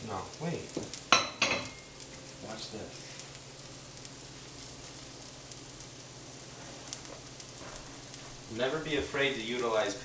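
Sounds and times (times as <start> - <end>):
food sizzling in oven: 0.0 - 10.0.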